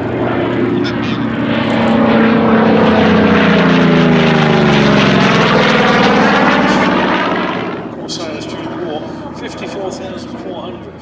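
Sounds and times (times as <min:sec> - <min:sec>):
propeller plane passing by: 0:00.0 - 0:11.0.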